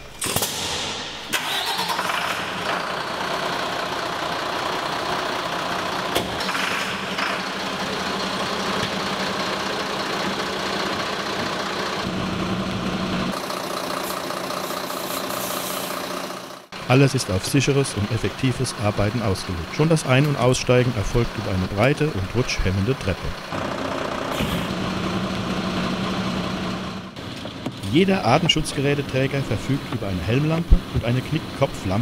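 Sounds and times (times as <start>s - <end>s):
diesel engine starting and idling: 0.0s - 32.0s.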